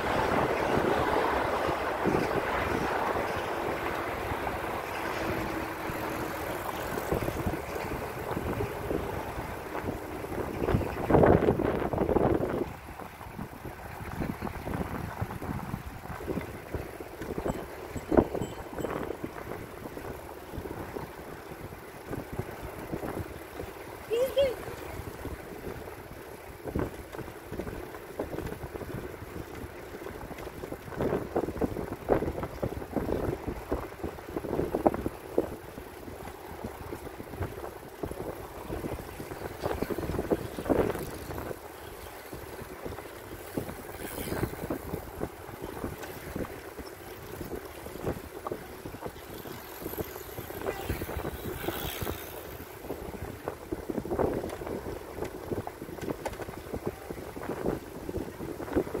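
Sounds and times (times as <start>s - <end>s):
tyres rolling on asphalt: 0.0s - 59.0s
wind buffeting microphone: 0.0s - 59.0s.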